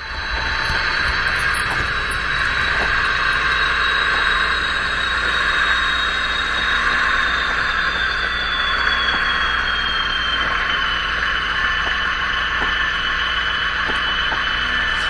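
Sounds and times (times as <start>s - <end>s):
high engine whine: 0.0s - 15.0s
model locomotive diesel engine sound: 0.0s - 15.0s.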